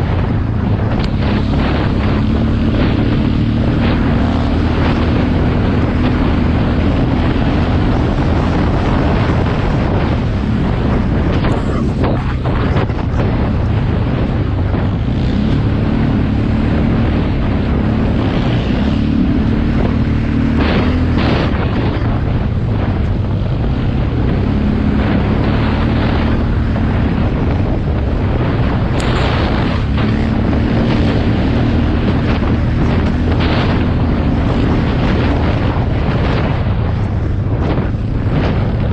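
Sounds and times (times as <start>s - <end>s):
motocross bike engine: 0.0s - 38.9s
wind noise on microphone: 0.0s - 38.9s.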